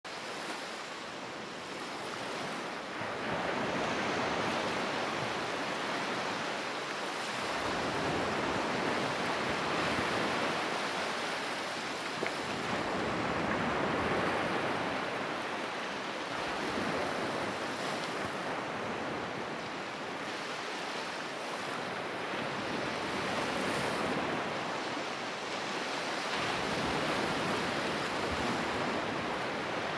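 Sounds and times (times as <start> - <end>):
ocean surf on sandy beach: 0.1 - 29.9.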